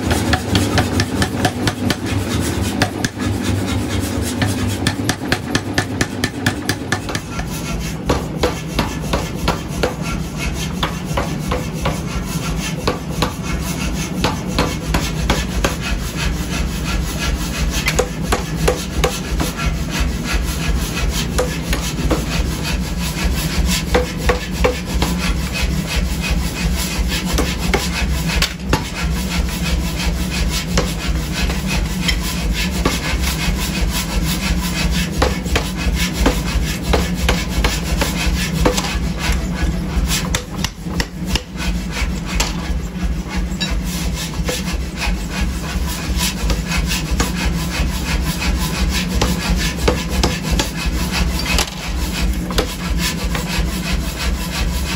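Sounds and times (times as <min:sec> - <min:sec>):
power hammer pounding steel: 0:00.0 - 0:54.9.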